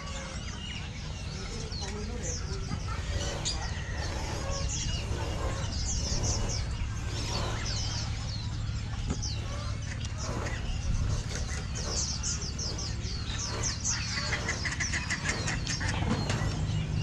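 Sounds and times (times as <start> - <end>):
birds chirping: 0.0 - 17.0
chickens clucking: 0.0 - 17.0
low background rumble: 0.0 - 17.0.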